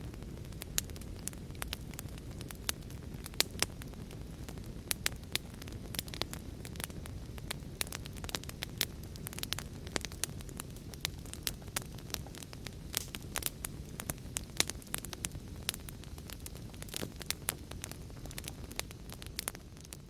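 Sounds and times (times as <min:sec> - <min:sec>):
low rush of burning: 0:00.0 - 0:20.0
wood fire crackling and popping: 0:00.0 - 0:20.0.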